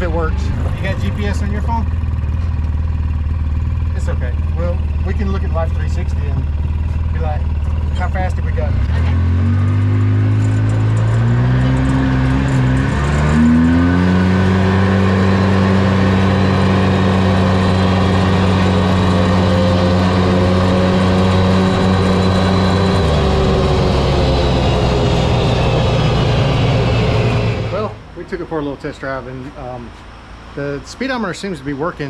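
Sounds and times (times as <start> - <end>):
vehicle engine driving: 0.0 - 32.0.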